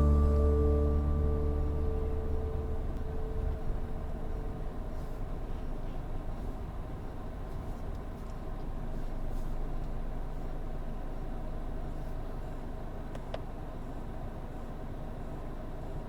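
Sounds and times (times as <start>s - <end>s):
vehicle road and engine rumble: 0.0s - 16.0s.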